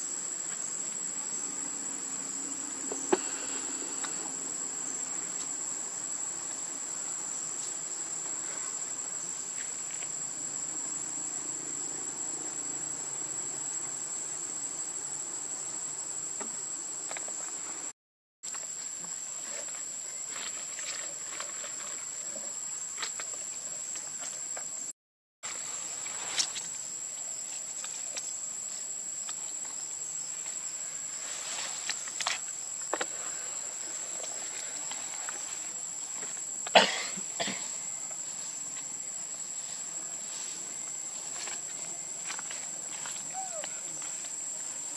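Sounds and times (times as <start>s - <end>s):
high-pitched insect chorus: 0.0s - 17.9s, 25.5s - 44.9s.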